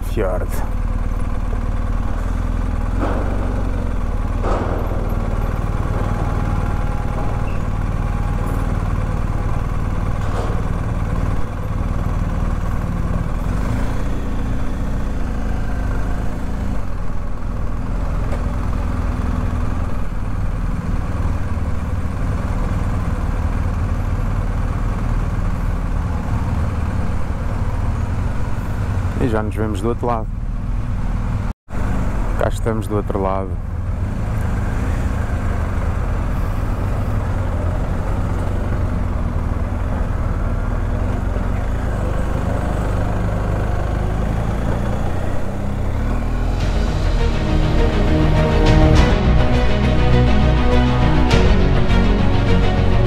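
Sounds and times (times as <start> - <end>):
vehicle engine rumble: 0.0 - 53.0.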